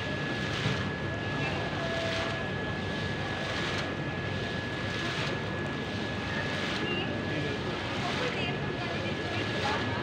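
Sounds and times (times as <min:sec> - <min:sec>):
fountain jets splashing into basin: 0:00.0 - 0:10.0.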